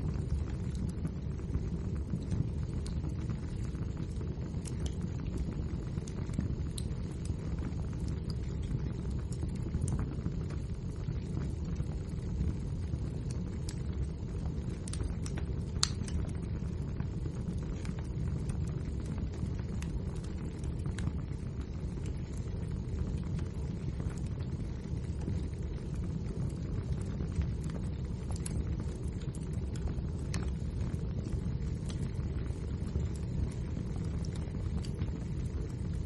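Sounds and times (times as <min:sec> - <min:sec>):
fire crackling and popping: 0:00.0 - 0:36.0
fireplace fire rumbling: 0:00.0 - 0:36.0.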